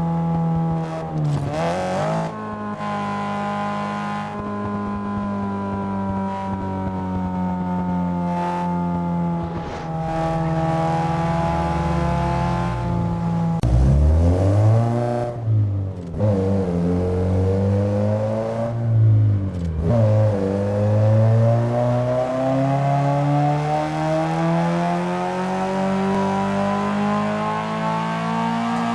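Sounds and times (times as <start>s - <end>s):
car engine revving: 0.2s - 28.9s.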